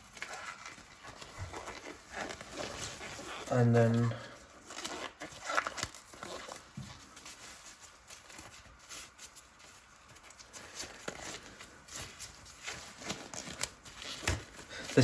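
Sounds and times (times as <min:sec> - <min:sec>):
taps and rustles of handling: 0:00.0 - 0:15.0.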